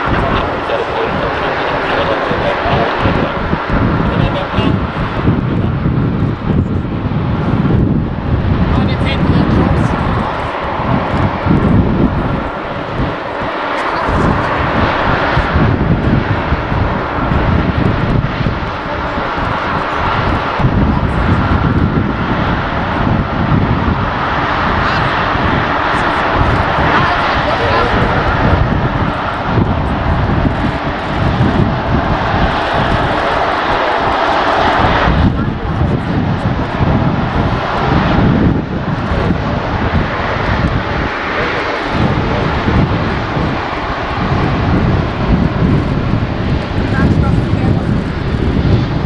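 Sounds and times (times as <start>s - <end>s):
jet engines at taxi power: 0.0s - 49.0s.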